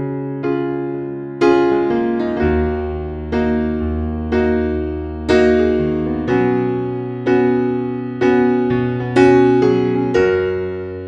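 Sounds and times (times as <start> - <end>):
piano-like keyboard chords: 0.0 - 11.0.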